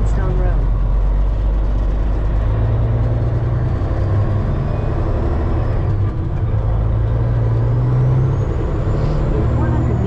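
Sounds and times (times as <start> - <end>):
truck diesel engine droning: 0.0 - 10.0.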